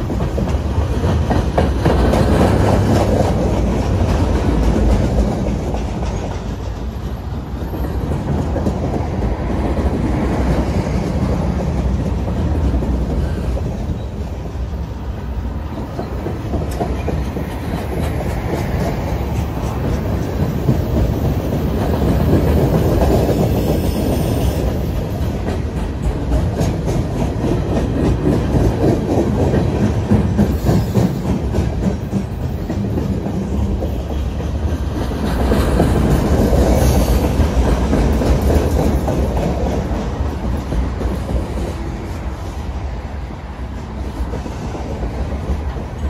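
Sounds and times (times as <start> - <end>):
low rumble of train: 0.0 - 46.0
train wheels clattering on rails: 0.0 - 46.0.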